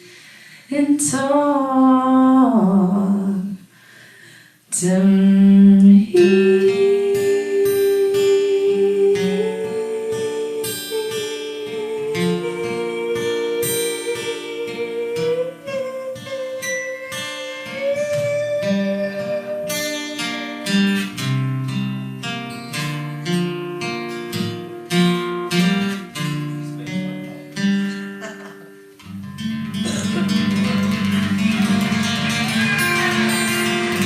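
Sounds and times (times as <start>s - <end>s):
acoustic guitar playing: 5.0s - 34.0s.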